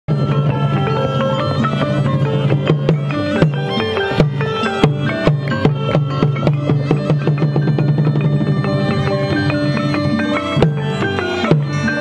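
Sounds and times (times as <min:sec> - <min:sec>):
sharp drum beats: 0:00.1 - 0:12.0
struck melodic percussion: 0:00.1 - 0:12.0.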